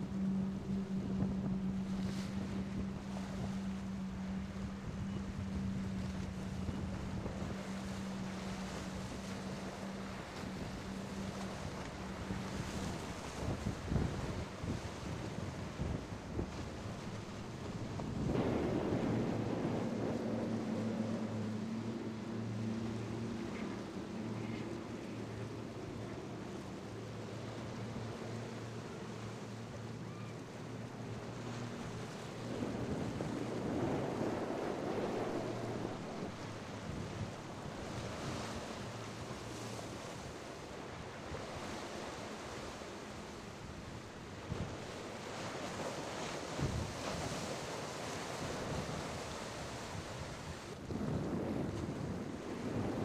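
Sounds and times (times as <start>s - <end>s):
wind buffeting microphone: 0.0s - 27.0s, 31.0s - 53.0s
passing boat engine humming: 0.0s - 53.0s
waves breaking: 0.0s - 53.0s.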